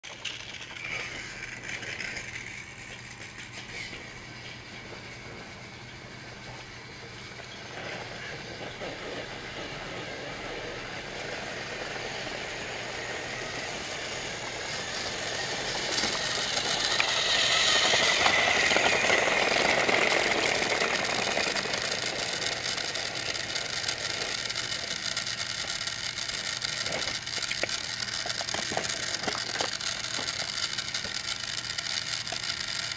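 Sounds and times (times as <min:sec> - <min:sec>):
toy train motor whirring: 0:00.0 - 0:32.9
toy train wheels rattling on track: 0:00.0 - 0:32.9.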